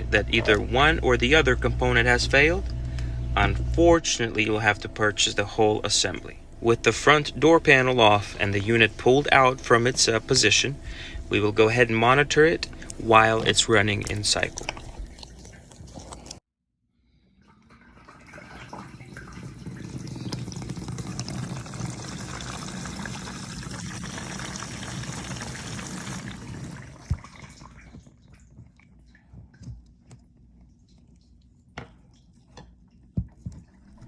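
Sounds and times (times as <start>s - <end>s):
water pouring into dishwasher: 0.0s - 16.4s, 17.3s - 29.2s.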